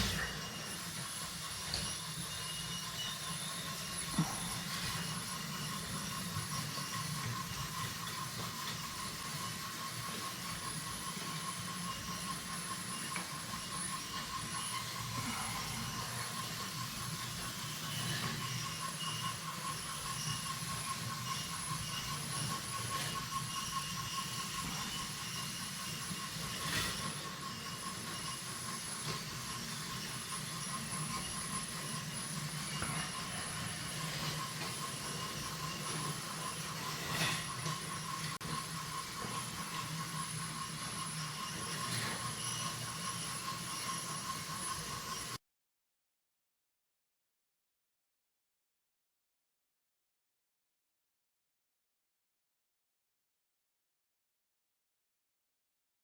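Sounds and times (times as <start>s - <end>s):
toy train motors whirring: 0.0s - 45.4s.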